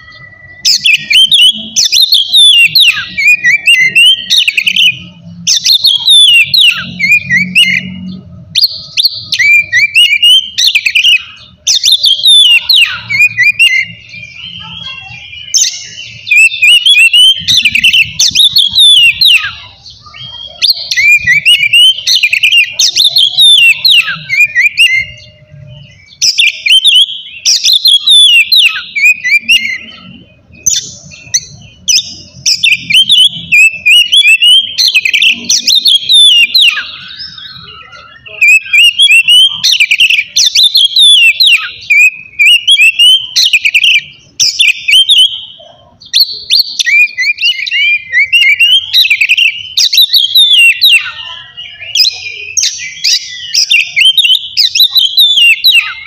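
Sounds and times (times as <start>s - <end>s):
songbird singing whistled phrases: 0.0s - 56.0s.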